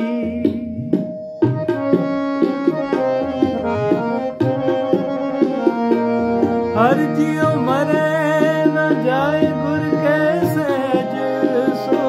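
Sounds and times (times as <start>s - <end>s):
harmonium melody: 0.0s - 12.0s
tabla rhythm: 0.0s - 12.0s.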